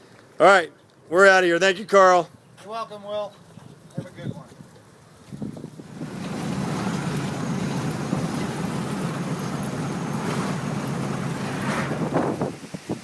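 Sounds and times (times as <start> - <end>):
vehicle engine and road noise: 2.3 - 13.0.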